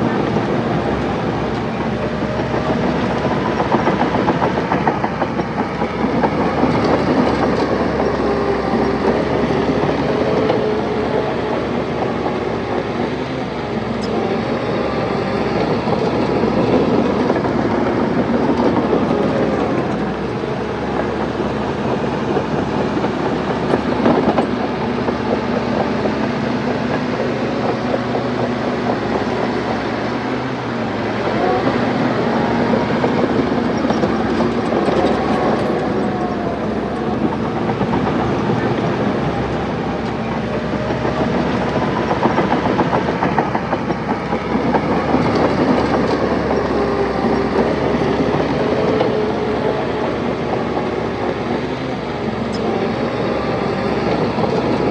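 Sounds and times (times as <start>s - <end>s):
bulldozer diesel engine under load: 0.0s - 54.9s
steel tracks clattering: 0.0s - 54.9s.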